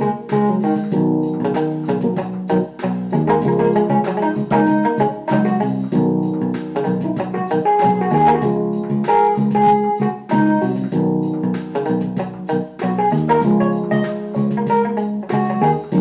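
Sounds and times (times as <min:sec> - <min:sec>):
keyboard chords over a beat: 0:00.0 - 0:16.0.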